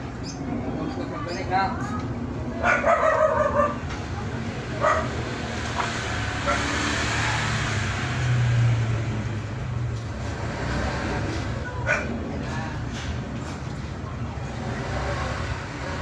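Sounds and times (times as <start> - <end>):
passing vehicle engine hum: 0.0 - 16.0.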